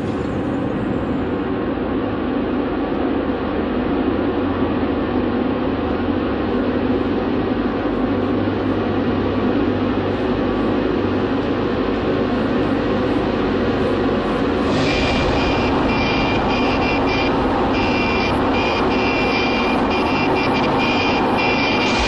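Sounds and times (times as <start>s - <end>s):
low rumbling drone with hum: 0.0s - 22.0s.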